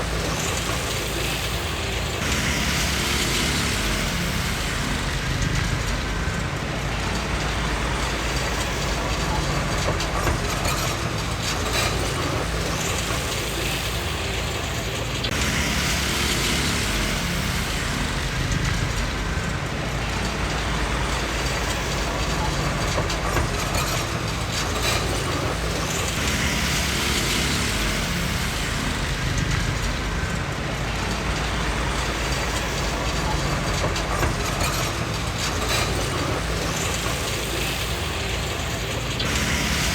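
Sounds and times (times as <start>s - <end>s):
bulldozer diesel engine running: 0.0s - 39.9s
steel tracks clanking: 0.0s - 39.9s.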